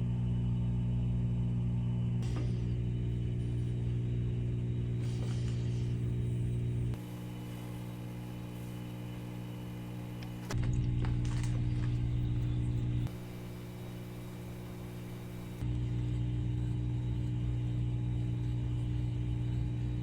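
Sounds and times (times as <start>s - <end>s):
electric motor humming: 2.2s - 20.0s.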